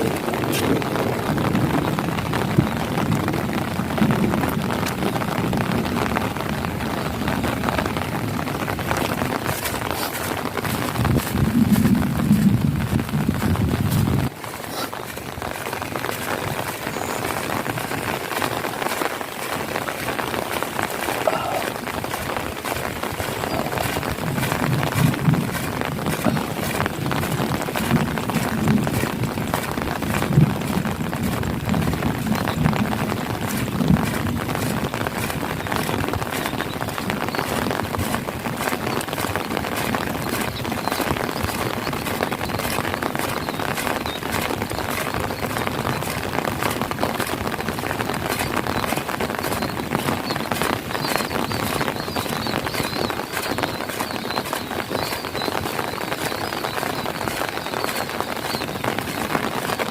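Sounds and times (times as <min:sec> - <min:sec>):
heavy rain on puddles: 0:00.0 - 0:59.9.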